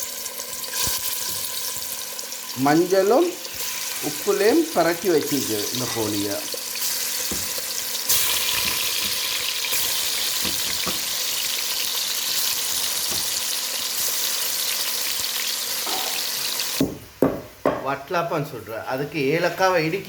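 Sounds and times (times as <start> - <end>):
ghee sizzling in a pan: 0.0 - 17.2.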